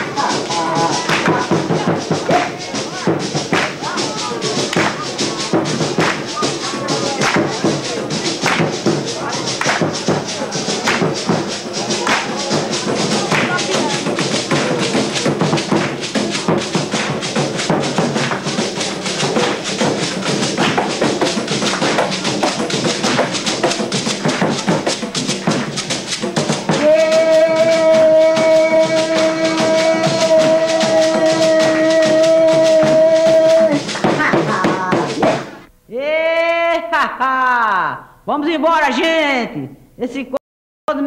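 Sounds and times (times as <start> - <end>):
fast tambourine-like percussion: 0.0 - 35.7
festive latin music: 0.0 - 39.1.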